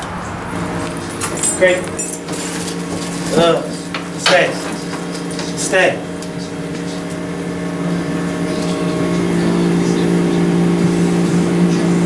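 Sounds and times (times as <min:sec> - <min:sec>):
low motor-like hum: 0:00.0 - 0:12.0.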